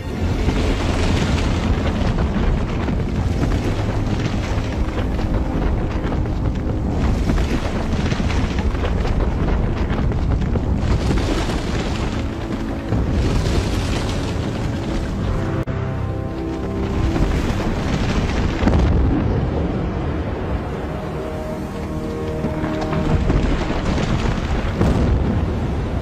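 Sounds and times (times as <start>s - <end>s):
deep rumble of grinding rock: 0.0s - 26.0s.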